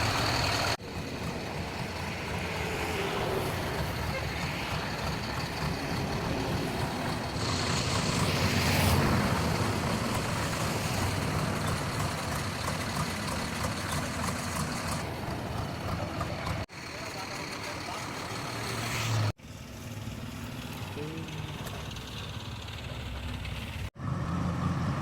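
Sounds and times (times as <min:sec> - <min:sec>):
heavy diesel engines running: 0:00.0 - 0:25.0.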